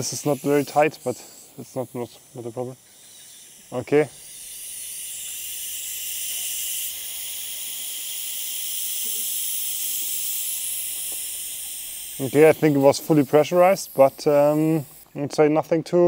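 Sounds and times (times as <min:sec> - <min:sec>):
gas hissing from valve: 0:00.0 - 0:15.2.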